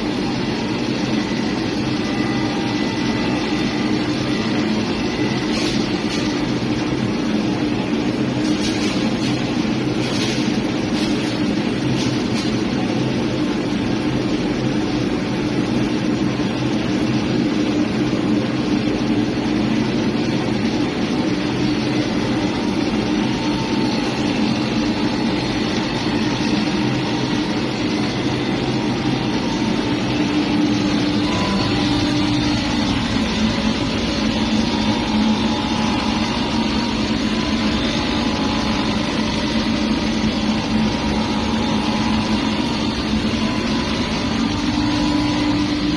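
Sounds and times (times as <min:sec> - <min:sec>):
pipe threading machine humming: 0:00.0 - 0:45.9.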